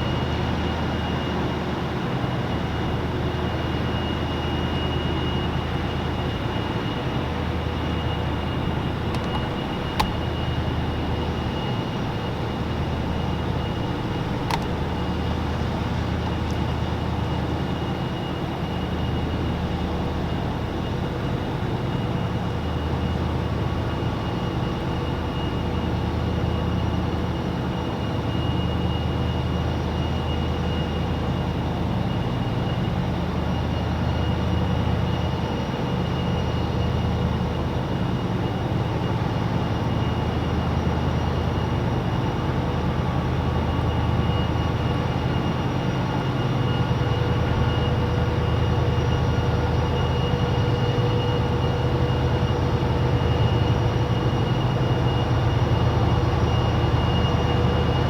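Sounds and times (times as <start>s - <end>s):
boat diesel engines droning: 0.0s - 58.0s
constant whine: 0.0s - 58.0s.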